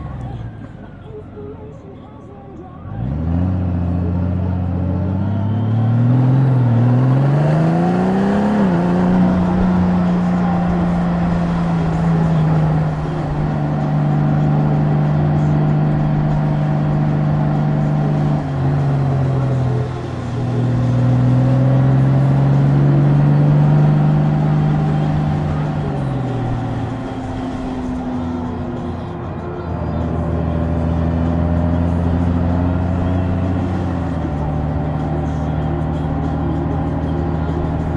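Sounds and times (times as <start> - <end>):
motorcycle engine accelerating: 2.8 - 37.9.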